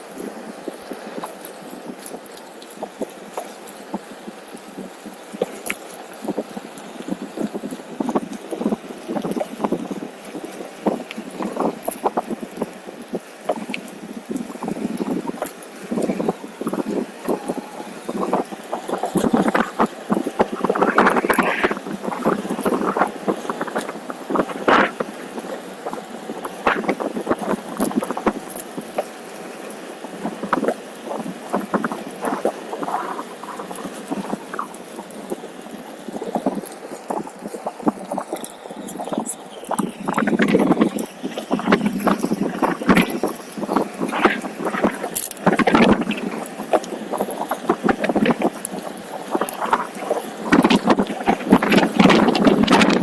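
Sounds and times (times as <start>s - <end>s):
steady rushing noise: 0.0s - 53.0s
wind buffeting microphone: 0.0s - 53.0s.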